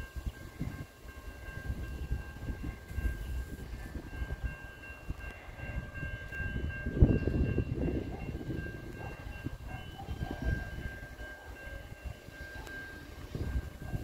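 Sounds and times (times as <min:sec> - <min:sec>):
train approaching rumble: 0:00.0 - 0:14.0.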